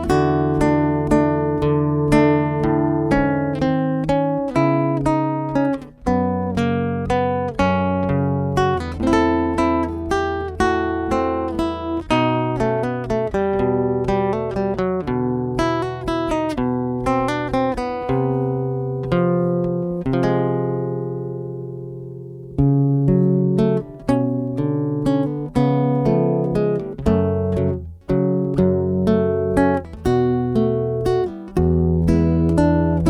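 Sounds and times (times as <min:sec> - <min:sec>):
fingerstyle acoustic guitar: 0:00.0 - 0:33.0.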